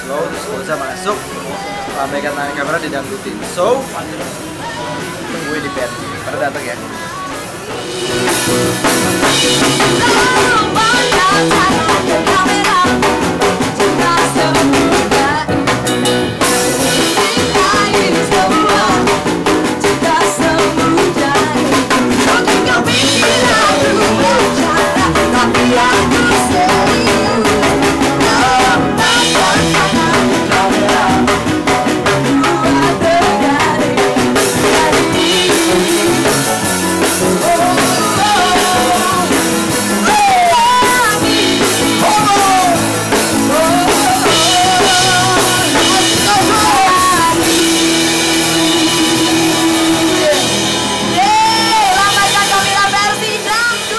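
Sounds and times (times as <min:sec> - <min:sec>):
live band with drum kit: 0:00.0 - 0:53.9
woman singing into a microphone: 0:09.2 - 0:53.9.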